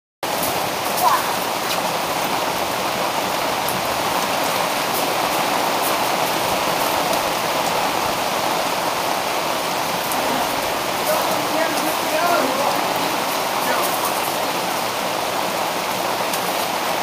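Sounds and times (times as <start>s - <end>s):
rain pouring down: 0.2s - 17.0s.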